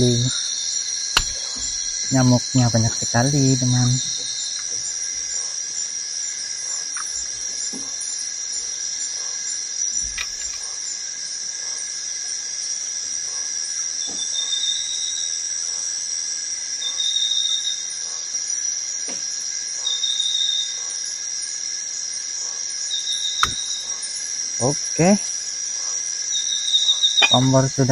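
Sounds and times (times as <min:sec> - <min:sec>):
forest insects chorus: 0:00.0 - 0:27.9.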